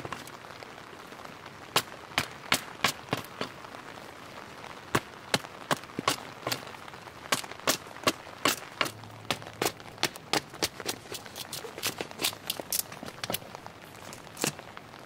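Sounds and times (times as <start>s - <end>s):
light rain hiss: 0.0s - 15.0s.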